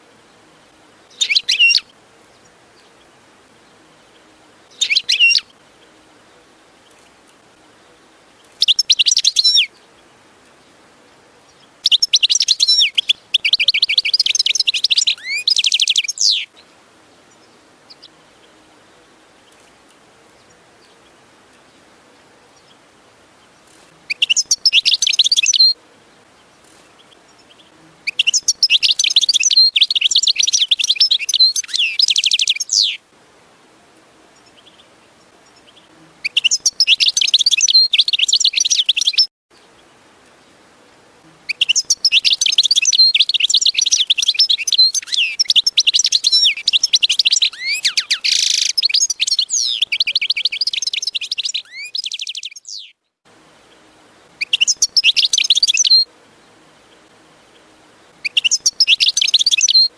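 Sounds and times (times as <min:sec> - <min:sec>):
bird twittering song: 0:00.0 - 0:33.0, 0:34.3 - 0:59.9.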